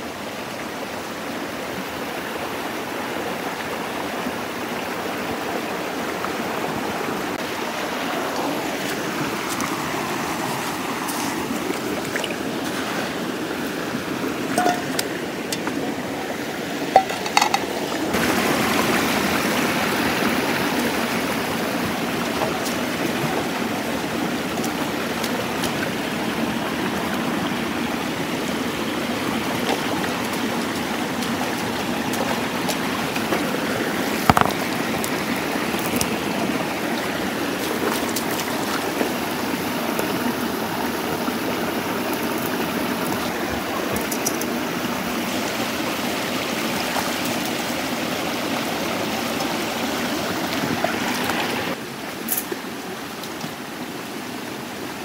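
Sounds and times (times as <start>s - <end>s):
stream splashing over rocks: 0.0s - 55.0s.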